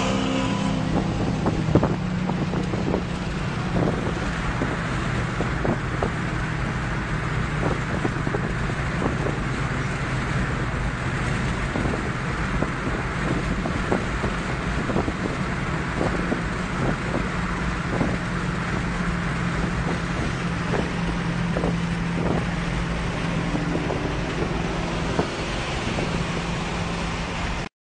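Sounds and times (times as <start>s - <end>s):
cars driving at highway speed: 0.0s - 27.7s
wind rushing past microphone: 0.0s - 27.7s.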